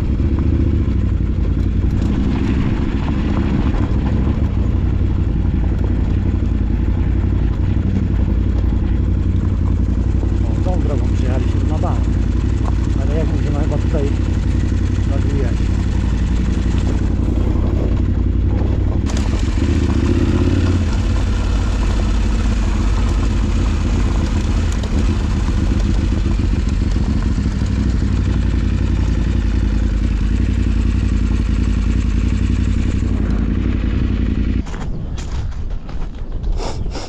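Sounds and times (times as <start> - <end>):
motorcycle engine running: 0.0 - 36.6.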